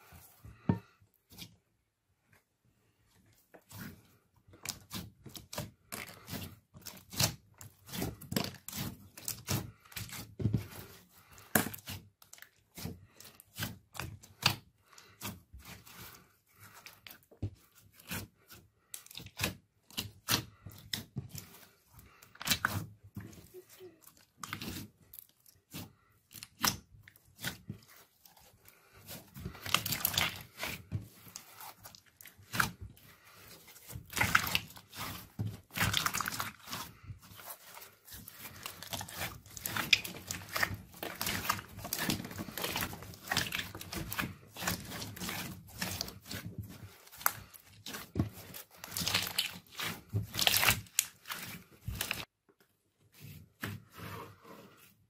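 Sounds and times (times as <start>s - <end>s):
slime squishing and crackling: 3.6s - 52.3s.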